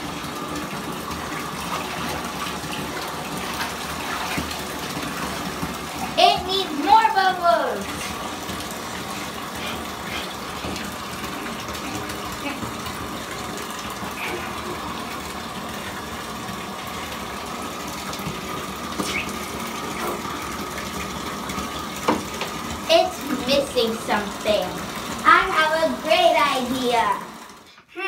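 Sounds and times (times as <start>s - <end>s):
water pouring into bathtub: 0.0s - 27.9s.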